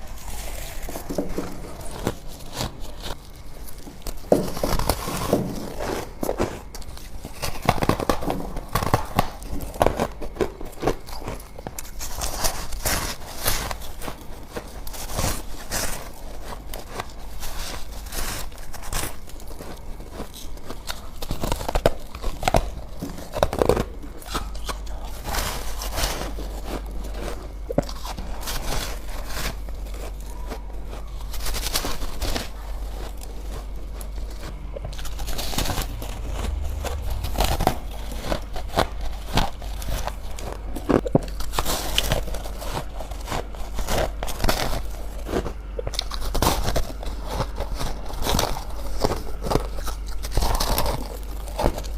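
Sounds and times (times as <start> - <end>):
person chewing ice: 0.0 - 51.9.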